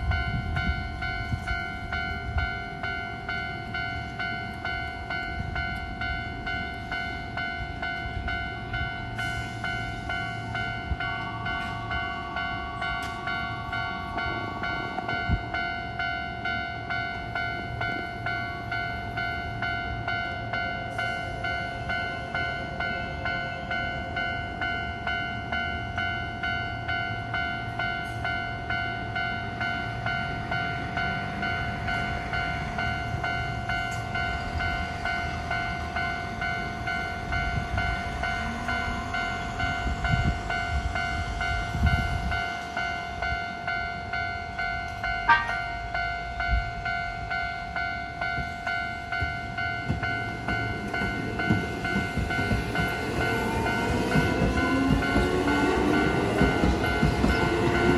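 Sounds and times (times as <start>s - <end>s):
electric train rumbling: 0.0s - 57.9s
railroad crossing bell ringing: 0.0s - 57.9s.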